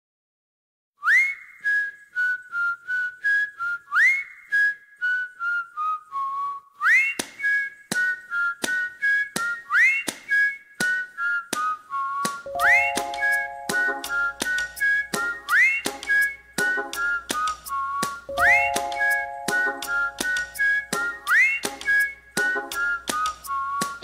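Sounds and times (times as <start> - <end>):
cheerful whistled tune: 1.0 - 24.0.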